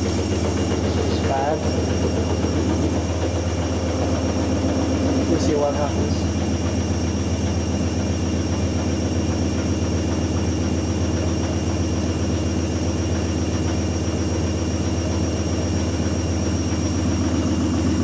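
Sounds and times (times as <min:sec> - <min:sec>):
washing machine spin drone: 0:00.0 - 0:18.0.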